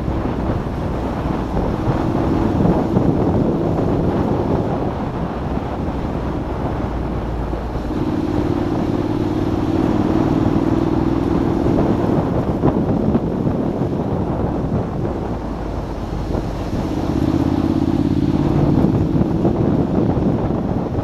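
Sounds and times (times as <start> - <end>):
motorcycle engine running: 0.0 - 21.0
road noise: 0.0 - 21.0
wind rushing: 0.0 - 21.0.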